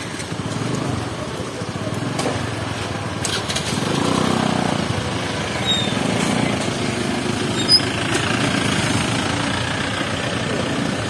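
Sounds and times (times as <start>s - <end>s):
small vehicle engines rumbling: 0.0s - 11.0s.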